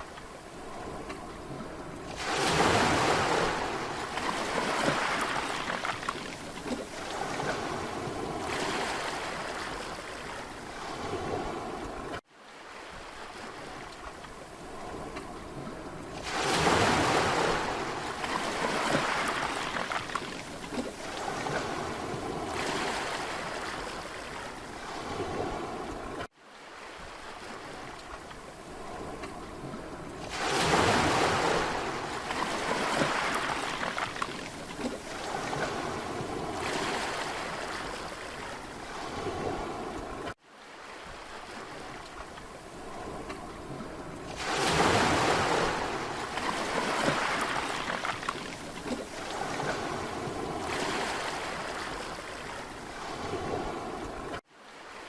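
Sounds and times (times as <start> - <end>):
sea waves breaking on a beach: 0.0 - 55.0.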